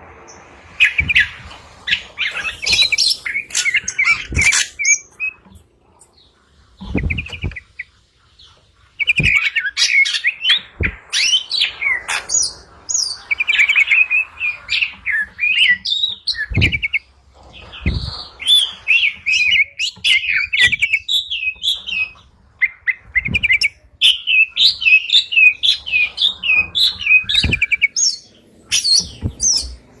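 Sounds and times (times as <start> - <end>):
songbird chirping and trilling: 0.3 - 30.0.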